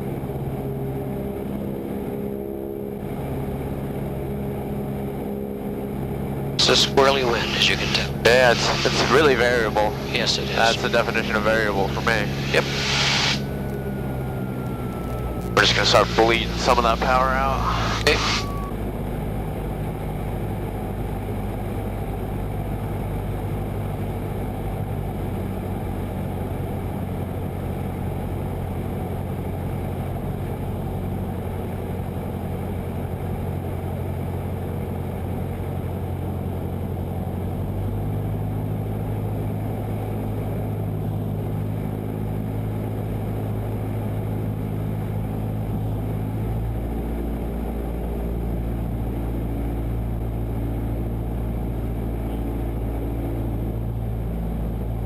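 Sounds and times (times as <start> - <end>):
piston aircraft engine droning: 0.0 - 55.0.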